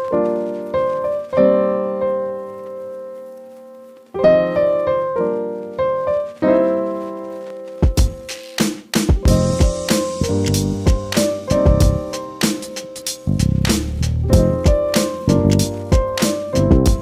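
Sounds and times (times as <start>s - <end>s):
piano chords ringing: 0.0s - 8.4s, 9.2s - 13.6s, 14.2s - 17.0s.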